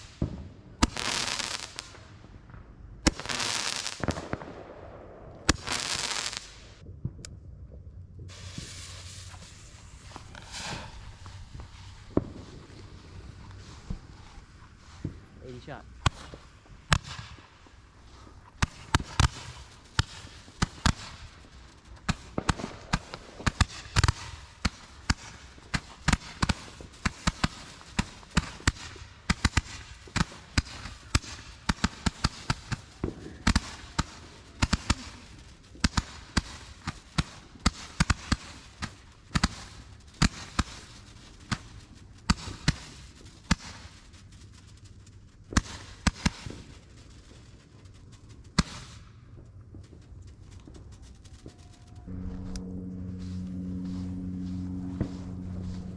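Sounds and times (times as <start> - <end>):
fireworks cracking and popping: 0.0 - 55.9.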